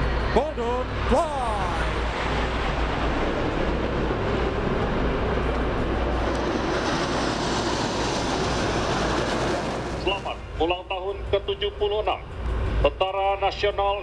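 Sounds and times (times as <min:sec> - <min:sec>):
jets flying over: 0:00.0 - 0:14.0.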